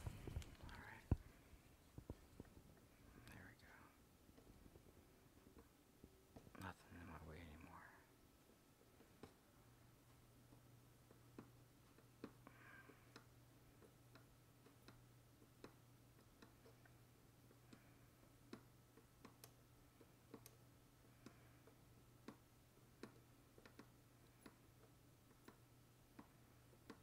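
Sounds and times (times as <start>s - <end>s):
faint irregular clicks: 0.0s - 27.0s
low steady hum: 0.0s - 27.0s.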